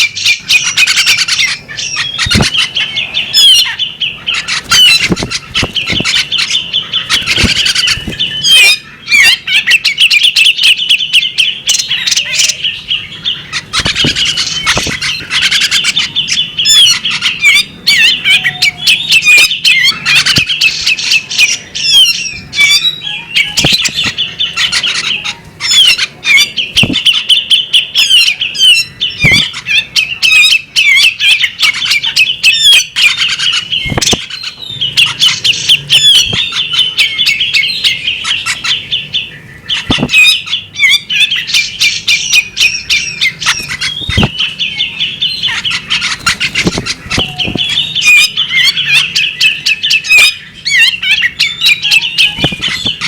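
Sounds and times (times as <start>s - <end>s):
bird singing whistled notes: 0.0s - 53.0s.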